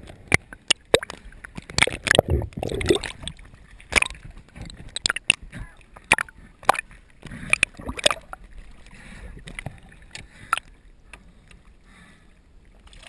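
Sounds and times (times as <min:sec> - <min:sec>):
water sloshing and splashing: 0:00.0 - 0:11.8, 0:12.6 - 0:13.0.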